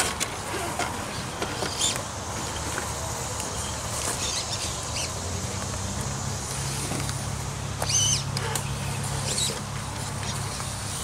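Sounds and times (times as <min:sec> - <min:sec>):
rc car motor humming: 0:00.0 - 0:11.0.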